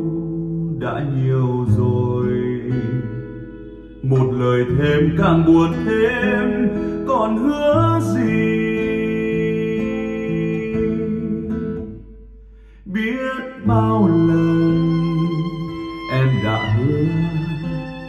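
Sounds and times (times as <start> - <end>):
guitar-led music over speakers: 0.0 - 18.0.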